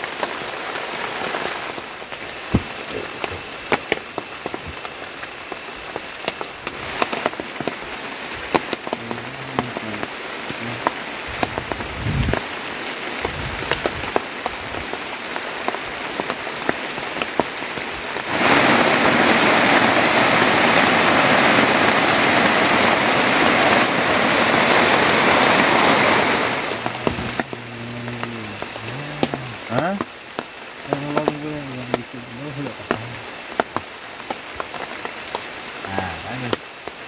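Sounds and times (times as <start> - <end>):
heavy rain on shelter: 0.0 - 37.0
sharp water drips: 0.0 - 37.0.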